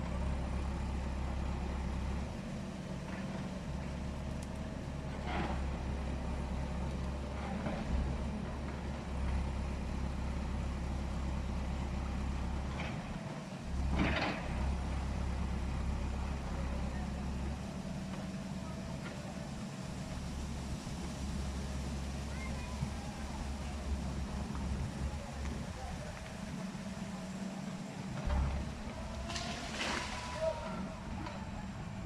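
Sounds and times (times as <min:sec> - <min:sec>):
heavy vehicle engine humming: 0:00.0 - 0:32.0.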